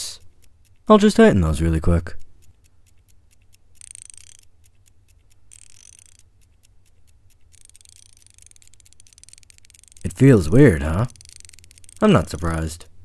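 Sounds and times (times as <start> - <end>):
ratcheting spanner clicking: 0.0 - 12.9.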